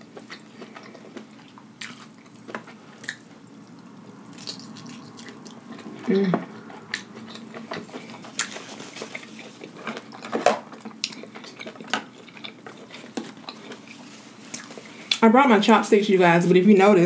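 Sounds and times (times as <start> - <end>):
wet chewing and slurping: 0.0 - 15.2.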